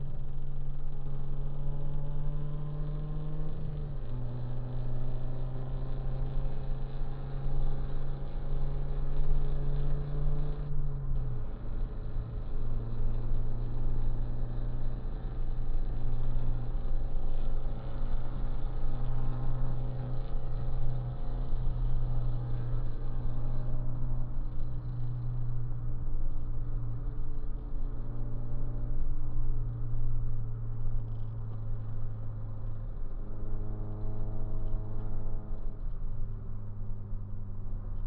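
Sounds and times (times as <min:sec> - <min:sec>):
car engine: 0:00.0 - 0:38.0
road noise inside car cabin: 0:00.0 - 0:38.0.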